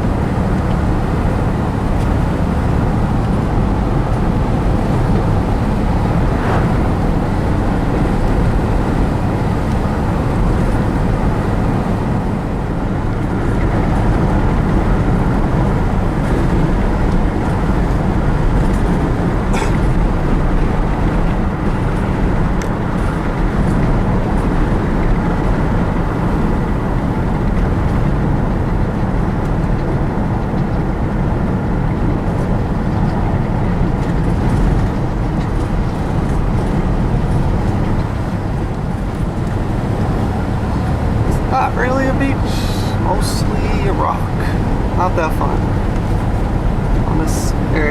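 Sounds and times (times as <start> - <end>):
truck cab road and engine rumble: 0.0 - 47.9.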